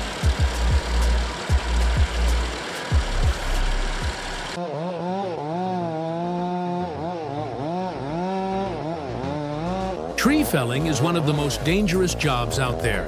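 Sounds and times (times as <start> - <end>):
chainsaw engine revving: 0.0 - 13.0
noisy machine sound: 0.0 - 13.0.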